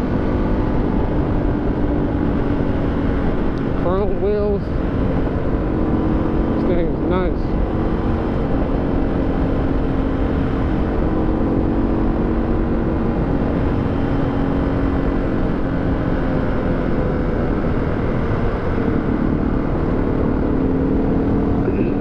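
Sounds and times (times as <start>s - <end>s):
motorcycle engine running steadily: 0.0s - 22.0s
wind rumble on microphone: 0.0s - 22.0s.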